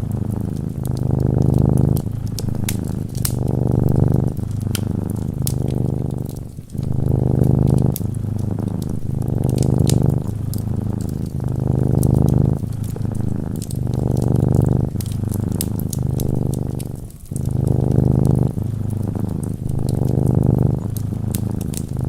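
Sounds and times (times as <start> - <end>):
cat purring: 0.0 - 22.0
wood fire crackling: 0.0 - 22.0.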